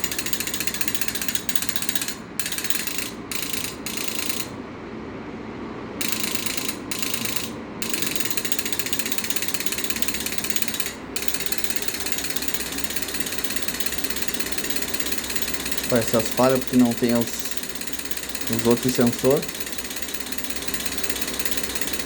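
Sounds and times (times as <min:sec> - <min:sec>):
injector solenoids clicking: 0:00.0 - 0:04.6, 0:06.0 - 0:22.0.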